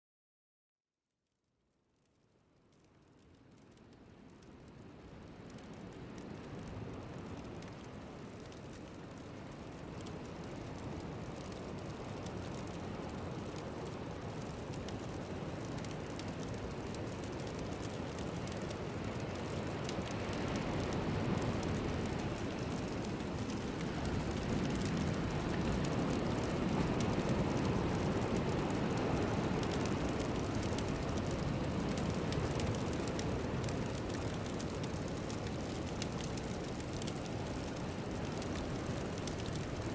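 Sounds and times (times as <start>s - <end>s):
steady rain-like rushing noise: 2.2s - 39.9s.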